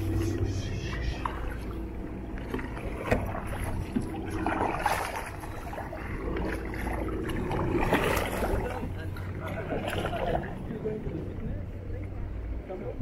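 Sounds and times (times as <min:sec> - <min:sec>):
paddles splashing in water: 0:00.0 - 0:12.1
water dripping and sloshing: 0:00.0 - 0:12.1.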